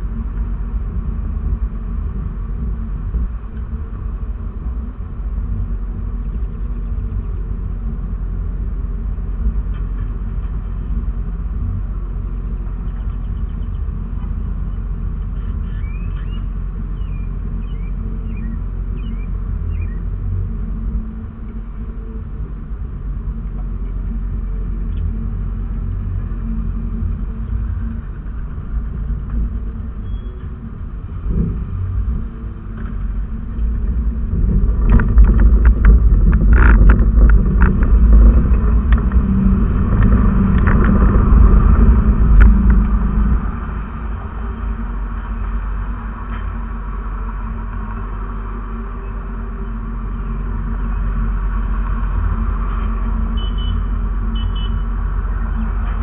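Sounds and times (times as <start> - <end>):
car idling: 0.0 - 56.0.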